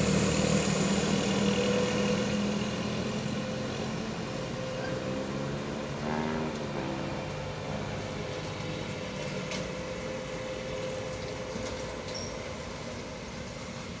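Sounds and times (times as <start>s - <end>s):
heavy trucks rumbling: 0.0s - 14.0s.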